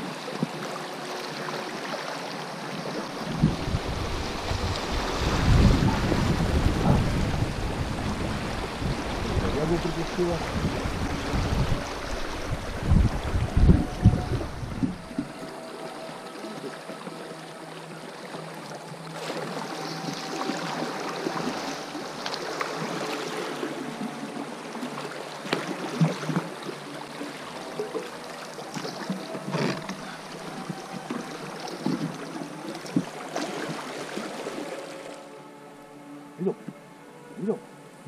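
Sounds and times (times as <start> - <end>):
river water rushing and splashing: 0.0 - 38.0.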